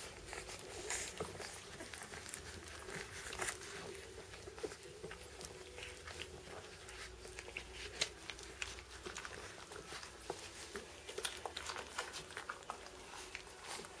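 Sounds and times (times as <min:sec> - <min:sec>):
faint steady hum: 0:00.0 - 0:14.0
puppies suckling: 0:00.0 - 0:14.0.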